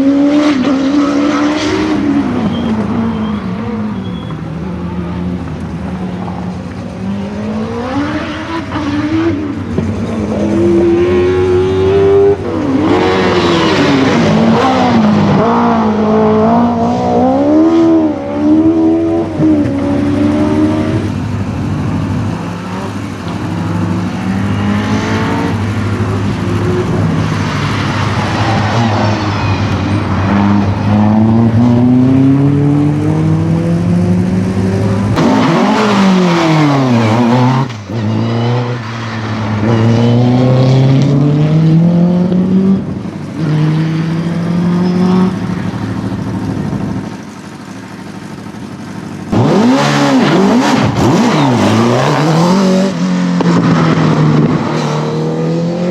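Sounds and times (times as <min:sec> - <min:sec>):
racing car engine at full throttle: 0:00.0 - 0:55.9.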